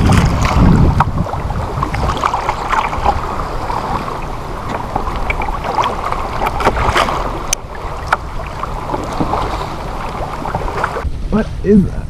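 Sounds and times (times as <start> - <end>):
water slapping kayak hull: 0.0 - 11.1
wind buffeting microphone: 0.0 - 12.0.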